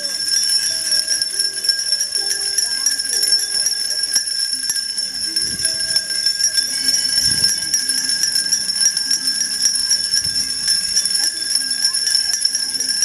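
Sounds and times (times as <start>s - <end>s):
hand bells jingling: 0.0s - 13.0s.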